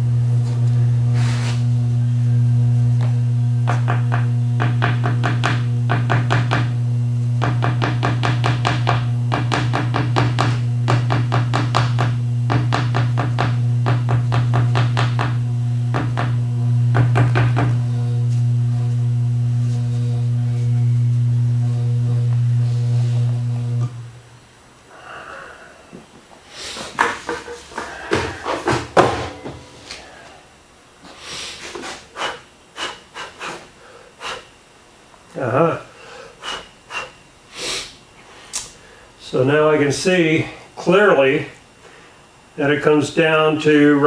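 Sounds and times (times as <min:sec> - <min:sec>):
magnetic yoke humming: 0:00.0 - 0:44.0.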